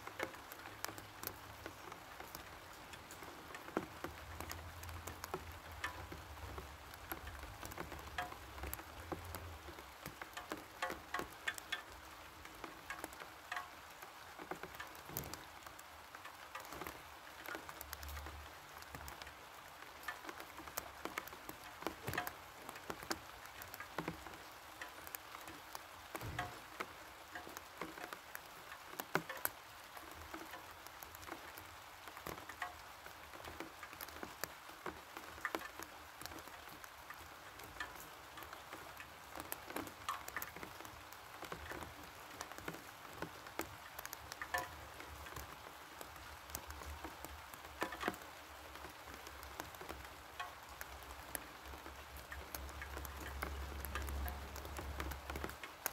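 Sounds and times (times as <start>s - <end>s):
rain falling: 0.0s - 55.9s
raindrops tapping: 0.0s - 55.9s.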